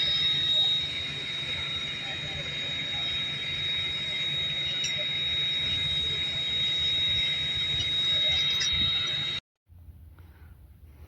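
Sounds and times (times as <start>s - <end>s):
high-pitched wheel squeal: 0.0s - 9.4s
railroad car rumbling on track: 0.0s - 9.4s.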